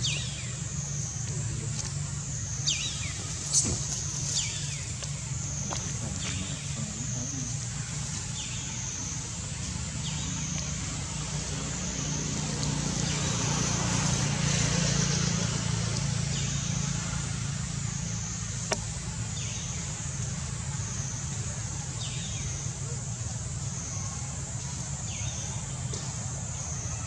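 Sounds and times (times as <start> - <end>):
motor vehicle hum: 0.0 - 27.0.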